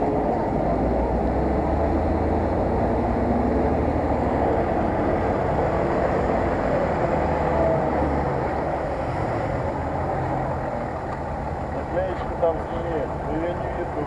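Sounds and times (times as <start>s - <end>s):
off-road vehicle engine driving past: 0.0s - 14.0s.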